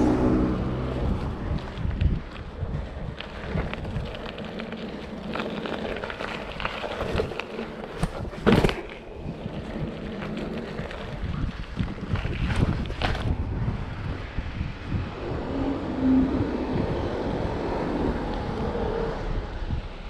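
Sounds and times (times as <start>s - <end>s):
bike rolling on pavement: 0.0s - 20.0s
wind buffeting microphone: 0.0s - 20.0s.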